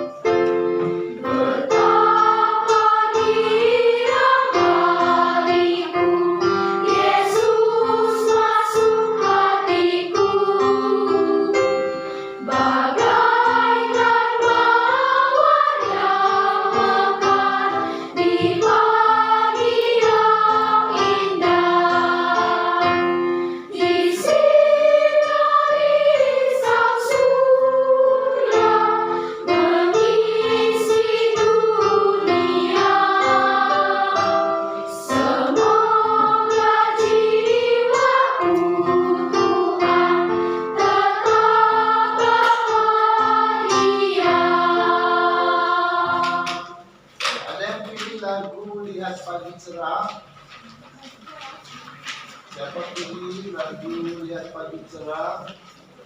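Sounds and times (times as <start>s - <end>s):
children's choir singing: 0.0s - 47.6s
keyboard accompaniment: 0.0s - 51.4s.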